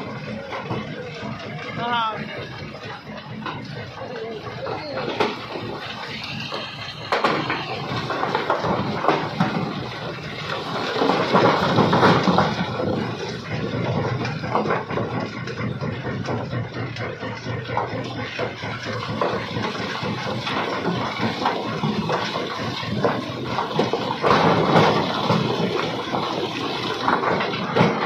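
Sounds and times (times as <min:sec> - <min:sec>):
rocks clattering into steel hopper: 0:05.0 - 0:28.0.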